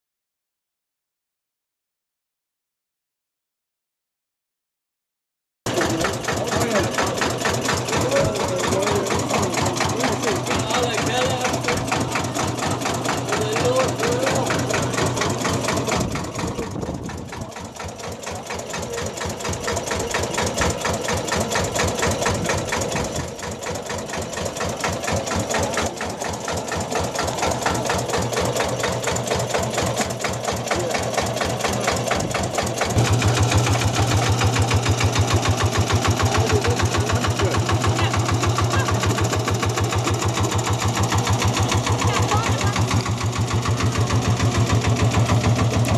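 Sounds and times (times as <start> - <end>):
model tractor engine running: 5.7 - 45.9.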